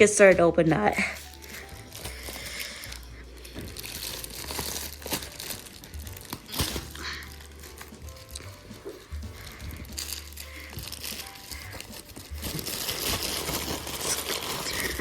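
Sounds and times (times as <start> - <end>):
plastic packaging crinkling: 0.8 - 15.0
plastic cracking: 0.9 - 15.0.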